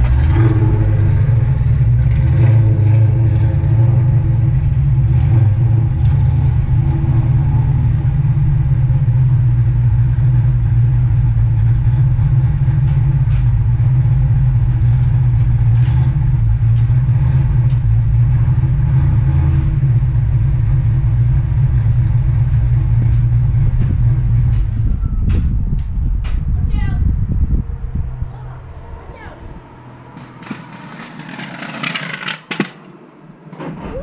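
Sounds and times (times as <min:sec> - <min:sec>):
car engine idling: 0:00.0 - 0:33.6.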